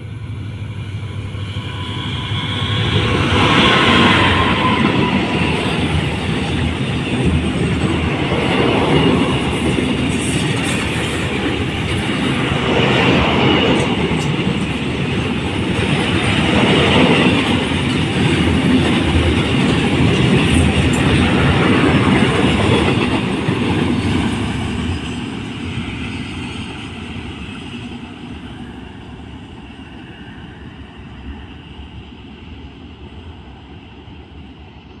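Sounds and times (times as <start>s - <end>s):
freight train wheels rolling on rails: 0.0s - 35.0s.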